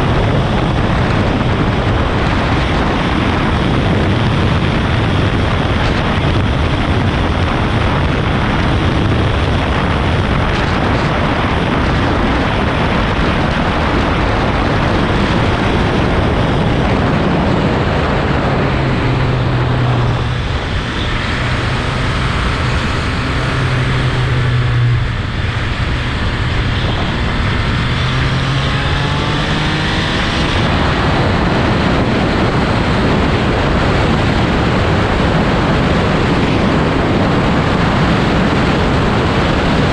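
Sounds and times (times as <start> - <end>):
low motorcycle engine hum: 0.0 - 39.9
wind rushing over microphone: 0.0 - 39.9.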